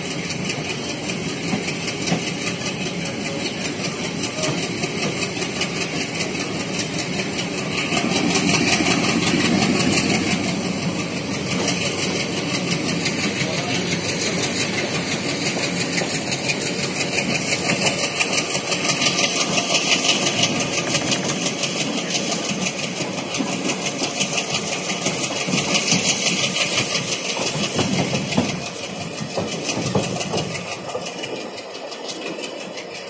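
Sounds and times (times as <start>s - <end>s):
train wheels clattering on rail: 0.0s - 33.0s.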